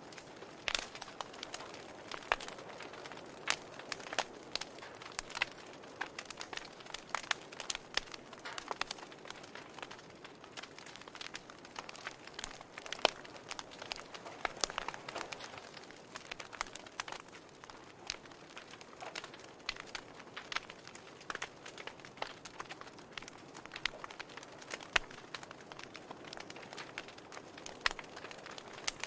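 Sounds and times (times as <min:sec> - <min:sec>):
fire pops and snaps: 0:00.0 - 0:29.0
fireplace fire crackling: 0:00.0 - 0:29.0.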